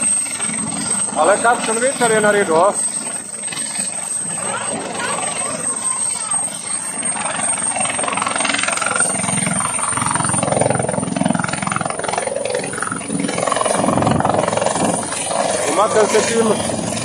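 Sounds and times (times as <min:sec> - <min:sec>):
helicopter rotor chopping: 0:00.0 - 0:17.0
high turbine whine: 0:00.0 - 0:17.0.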